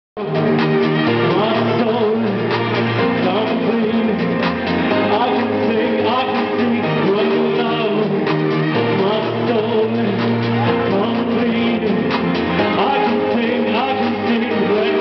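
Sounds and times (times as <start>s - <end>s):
live pop song: 0.2s - 15.0s.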